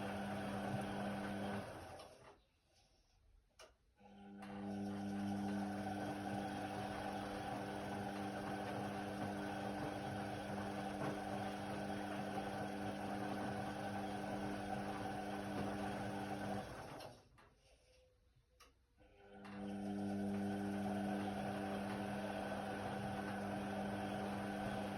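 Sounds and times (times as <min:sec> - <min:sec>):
washer-dryer motor hum: 0:00.0 - 0:02.3, 0:04.1 - 0:17.4, 0:19.2 - 0:24.9
washing machine noise: 0:00.0 - 0:02.4, 0:04.0 - 0:17.4, 0:19.1 - 0:24.9.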